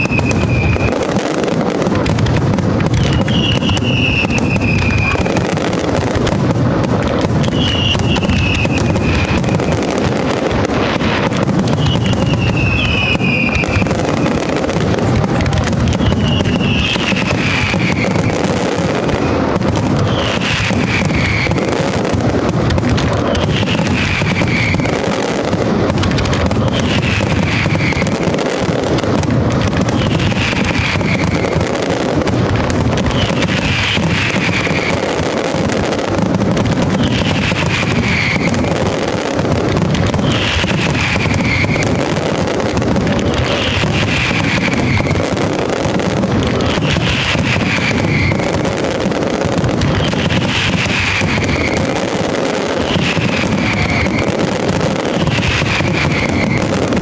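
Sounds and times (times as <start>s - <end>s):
fireworks bursts and crackle: 0.0s - 57.0s.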